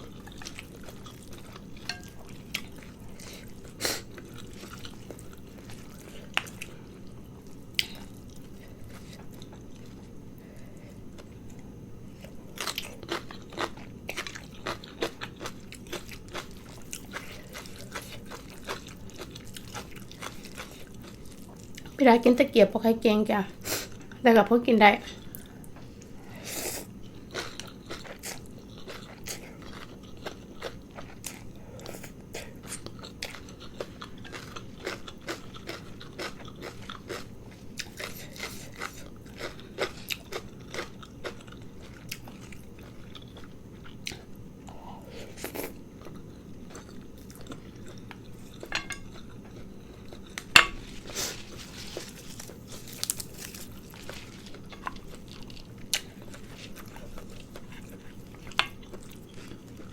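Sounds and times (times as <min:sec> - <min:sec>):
chewing crunchy food: 0:00.0 - 0:22.4, 0:25.0 - 0:59.9.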